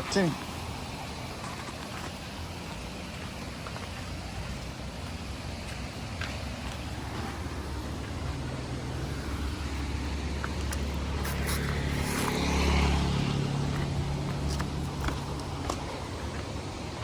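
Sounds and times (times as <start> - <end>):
river water rushing: 0.0 - 17.0
vehicle engine passing by: 0.0 - 17.0.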